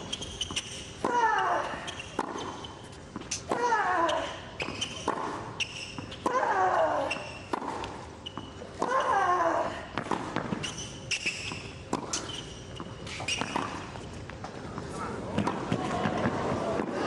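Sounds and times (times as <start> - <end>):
racquets striking tennis ball: 0.0 - 9.2, 9.9 - 16.9.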